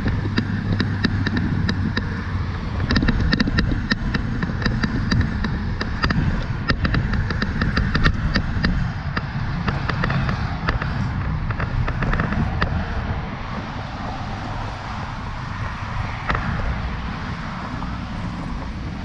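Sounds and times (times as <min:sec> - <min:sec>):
bicycle road noise: 0:00.0 - 0:19.0
sharp rapid ticks: 0:00.0 - 0:19.0
wind rumbling on microphone: 0:00.0 - 0:19.0.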